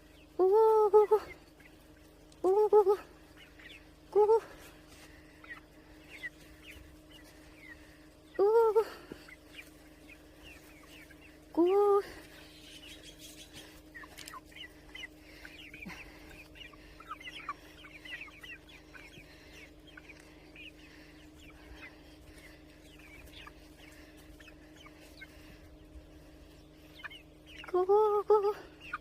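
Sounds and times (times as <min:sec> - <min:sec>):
chickens clucking: 0:00.0 - 0:29.0
faint steady hum: 0:00.0 - 0:29.0.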